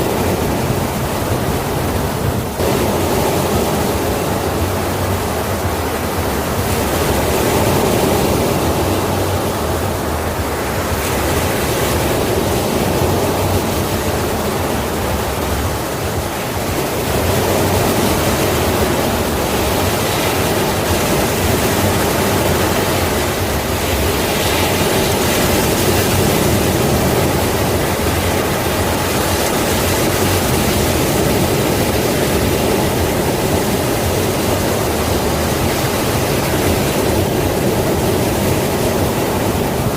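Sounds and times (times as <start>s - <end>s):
sea surf roaring: 0.0s - 39.9s.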